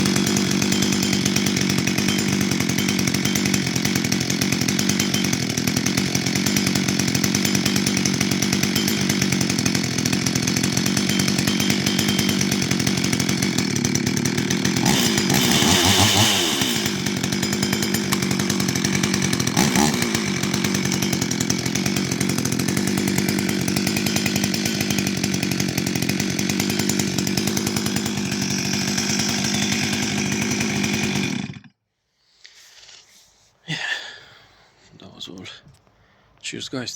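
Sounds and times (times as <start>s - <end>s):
chainsaw throttle blips: 0.0s - 31.7s
chainsaw idling: 0.0s - 31.8s.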